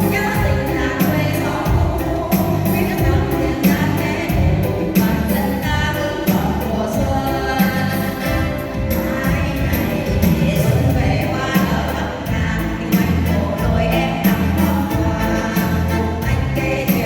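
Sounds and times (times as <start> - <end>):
backing track with beat and bass: 0.0 - 17.0
women's vocal group singing: 0.0 - 17.0.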